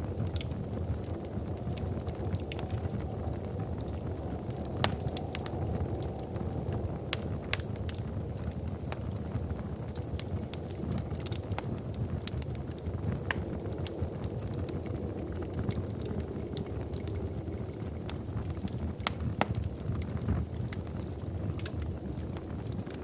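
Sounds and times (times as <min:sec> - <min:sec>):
flames rumbling: 0:00.0 - 0:23.0
wood fire crackling: 0:00.0 - 0:23.0.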